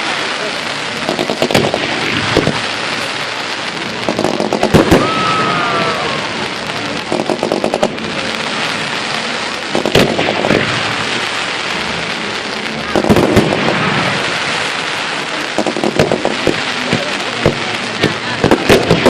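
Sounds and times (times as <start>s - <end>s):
firework whistle: 0.0s - 17.6s
firework bangs: 0.0s - 19.0s
fireworks crackling and popping: 0.0s - 19.0s.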